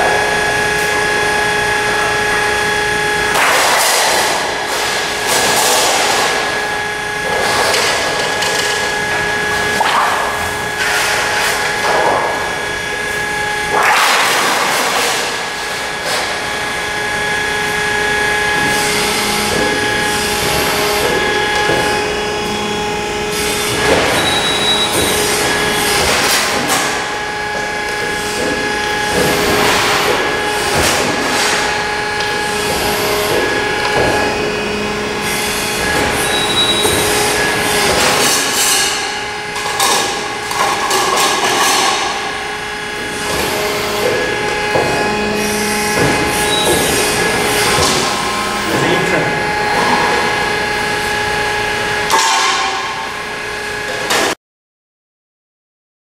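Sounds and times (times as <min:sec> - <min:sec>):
machine humming: 0:00.0 - 0:54.1.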